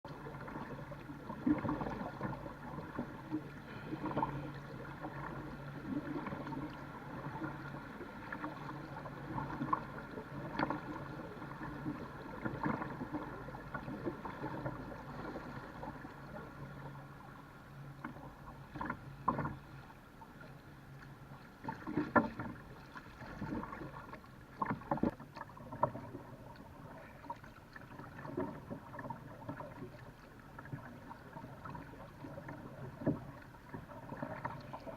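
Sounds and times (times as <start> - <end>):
water noise: 0.0 - 34.9.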